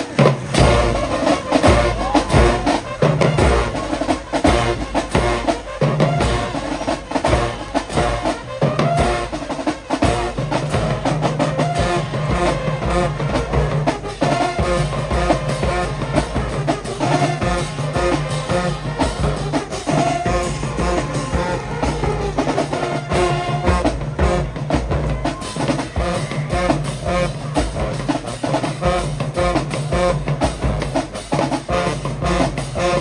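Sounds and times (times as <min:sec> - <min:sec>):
drums beating: 0:00.0 - 0:33.0
marching band playing: 0:00.0 - 0:33.0.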